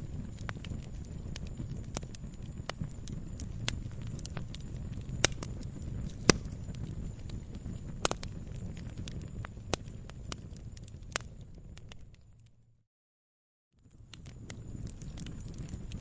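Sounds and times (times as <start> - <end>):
burning wood popping: 0.0 - 12.5, 13.8 - 16.0
low rumble of flames: 0.0 - 12.8, 13.8 - 16.0.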